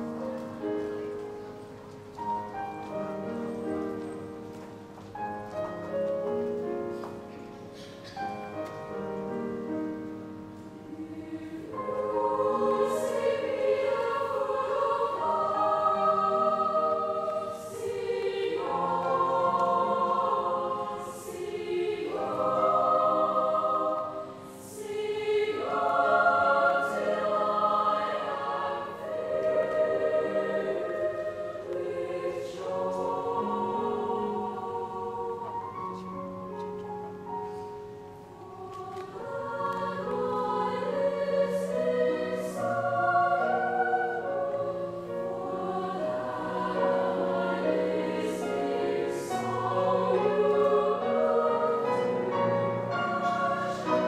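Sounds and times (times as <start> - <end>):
choir singing held chords: 5.2 - 54.0.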